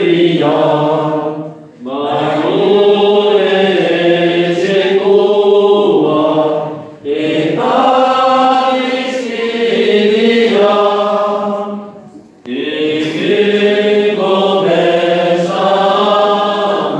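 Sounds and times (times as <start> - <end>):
slow sung chant: 0.0 - 16.9.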